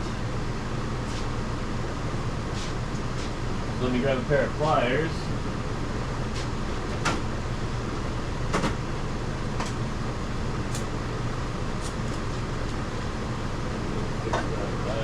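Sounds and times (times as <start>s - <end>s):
shop background hum: 0.0s - 15.0s.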